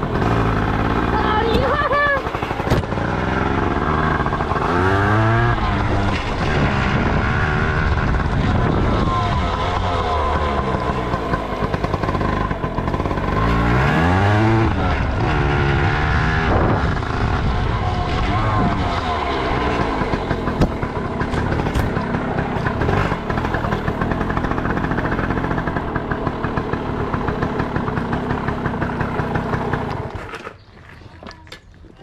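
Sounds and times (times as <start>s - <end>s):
dirt bike engine revving: 0.0s - 30.3s.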